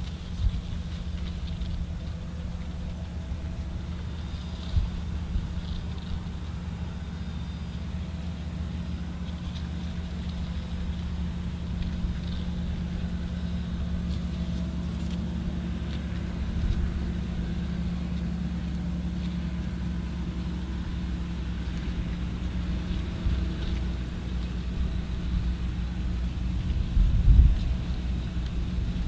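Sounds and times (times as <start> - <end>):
tractor diesel engines droning: 0.0 - 29.0.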